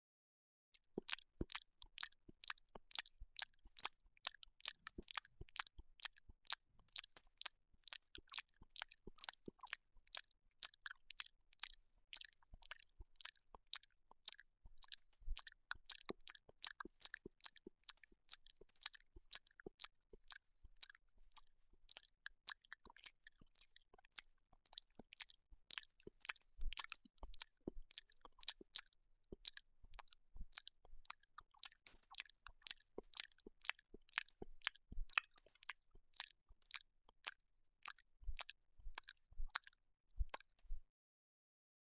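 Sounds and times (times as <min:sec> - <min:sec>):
dog licking wet clicks: 0:01.0 - 0:40.6.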